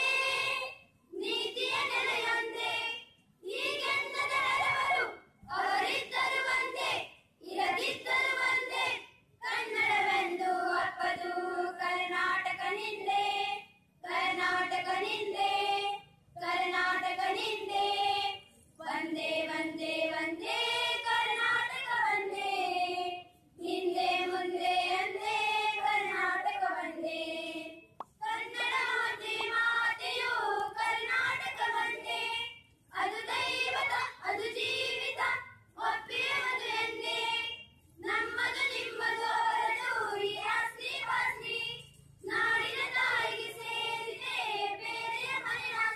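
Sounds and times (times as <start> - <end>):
girls singing in unison: 0.0 - 45.9.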